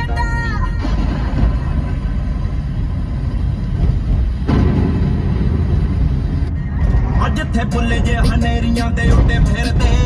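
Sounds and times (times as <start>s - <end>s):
road and engine noise in car: 0.0s - 10.0s.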